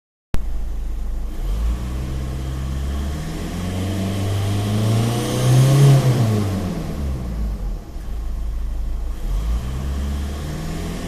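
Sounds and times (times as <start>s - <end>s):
car engine revving: 0.4s - 11.0s.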